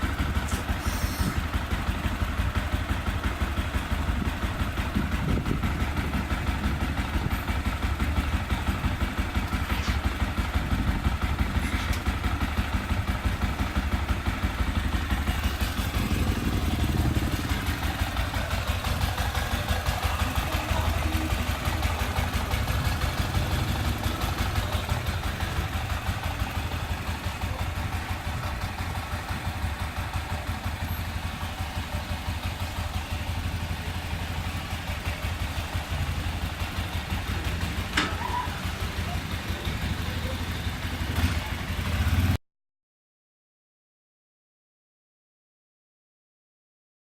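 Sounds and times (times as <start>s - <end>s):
motorcycle engine idling: 0.0s - 42.4s.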